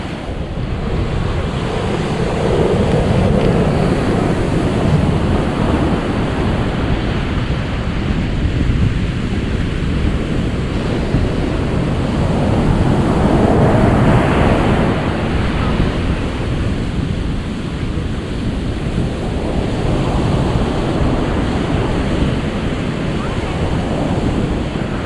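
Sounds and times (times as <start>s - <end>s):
ocean waves breaking: 0.0s - 25.0s
wind: 0.0s - 25.0s.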